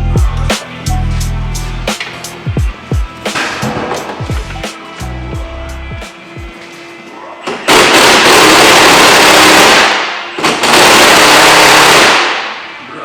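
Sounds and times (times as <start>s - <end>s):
power tool running: 0.6s - 12.8s.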